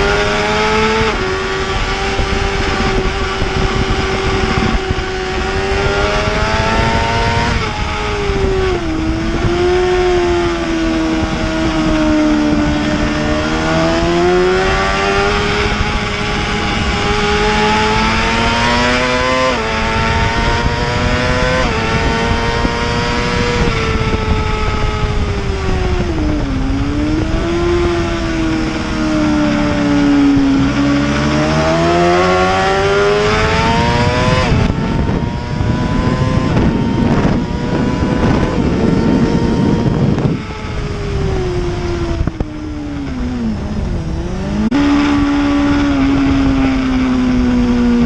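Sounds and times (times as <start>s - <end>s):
steady rushing noise: 0.0s - 48.0s.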